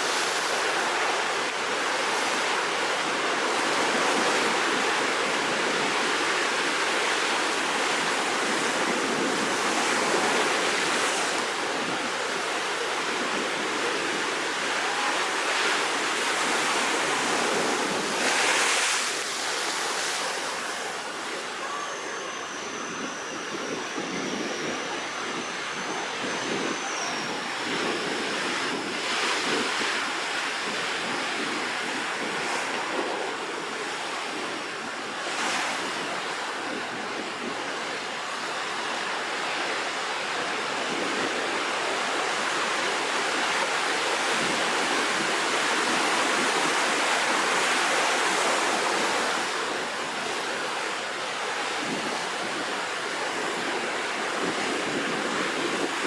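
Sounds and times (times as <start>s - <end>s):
waves breaking: 0.0s - 56.0s
wind on microphone: 0.0s - 56.0s.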